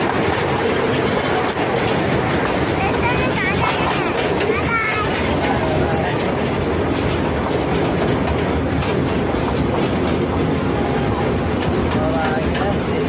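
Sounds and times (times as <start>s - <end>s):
toy train rumbling on track: 0.0s - 13.0s.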